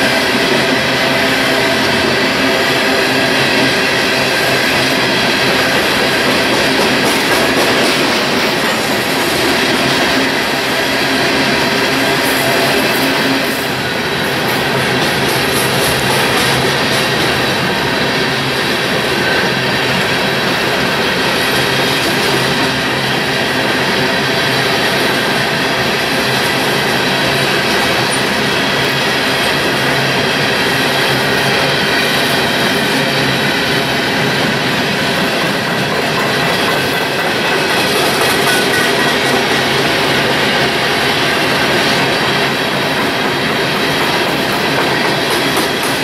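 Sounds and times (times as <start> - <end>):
train wheels on rails: 0.0 - 46.0.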